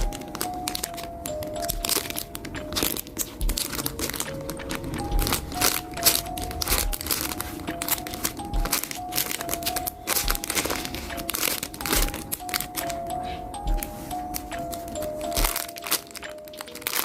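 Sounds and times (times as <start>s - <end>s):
background music with low beat: 0.0s - 17.0s
packaging crinkling and rustling: 0.0s - 17.0s.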